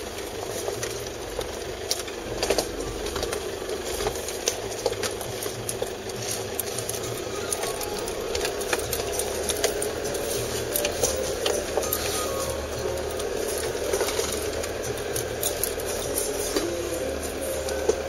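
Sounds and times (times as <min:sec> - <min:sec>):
diesel engine at low revs: 0:00.0 - 0:18.0.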